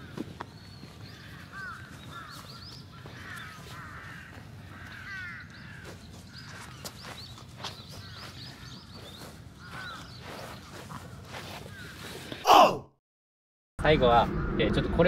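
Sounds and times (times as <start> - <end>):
wild birds calling: 0.0 - 12.5.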